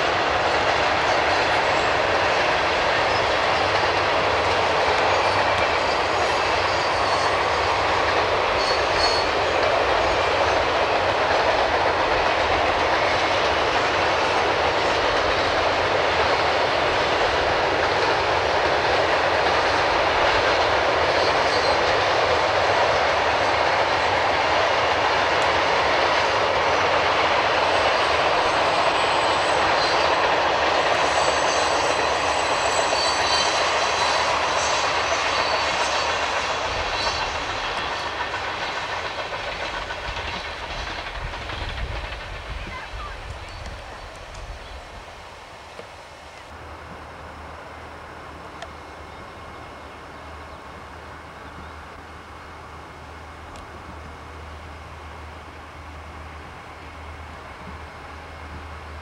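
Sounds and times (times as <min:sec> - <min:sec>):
freight train wheels rolling on rails: 0:00.0 - 0:59.0.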